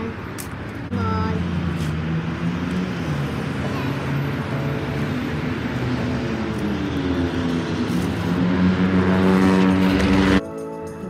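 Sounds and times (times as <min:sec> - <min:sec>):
bus engine passing: 0:00.0 - 0:10.4
street traffic: 0:00.0 - 0:11.0.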